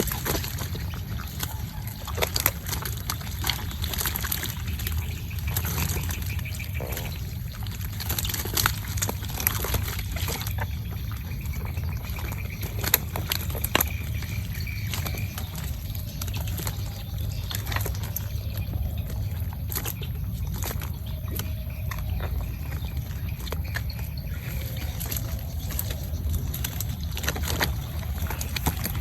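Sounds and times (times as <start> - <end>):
low rumble: 0.0 - 29.0
water trickling and splashing: 0.0 - 29.0.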